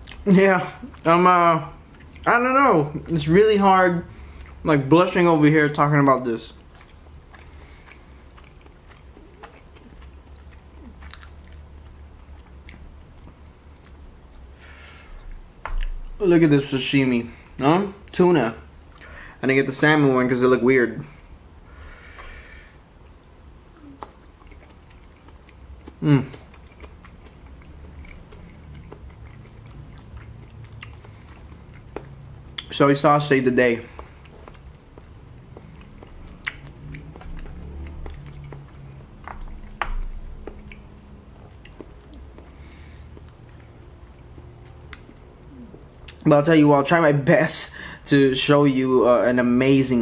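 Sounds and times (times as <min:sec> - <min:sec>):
close chewing mouth sounds: 0:00.0 - 0:16.2, 0:22.2 - 0:46.3
steady low hum: 0:00.0 - 0:50.0.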